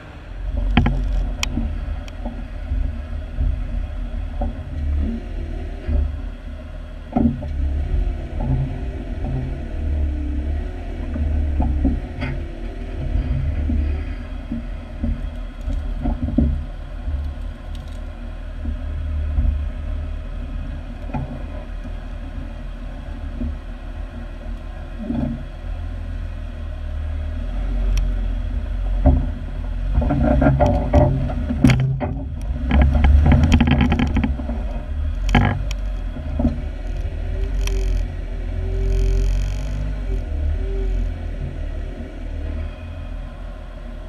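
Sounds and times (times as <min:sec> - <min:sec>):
car engine running at low revs: 0:00.0 - 0:44.0.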